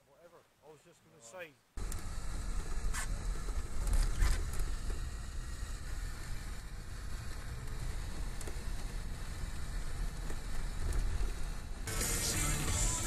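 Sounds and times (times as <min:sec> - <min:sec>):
vehicle engine and road rumble: 0:01.8 - 0:12.9.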